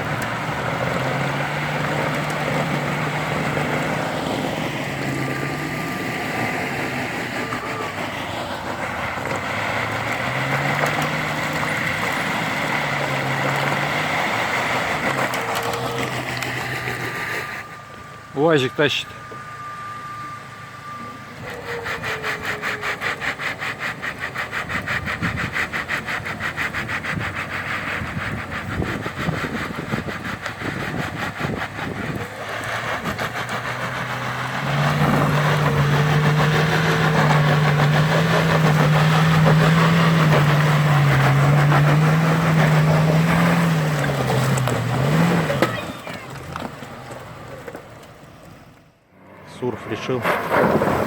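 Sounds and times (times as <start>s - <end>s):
engine working hard under load: 0.0s - 51.0s.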